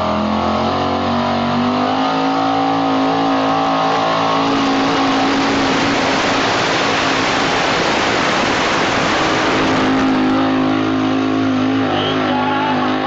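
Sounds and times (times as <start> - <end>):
pickup truck engine roaring: 0.0 - 13.0.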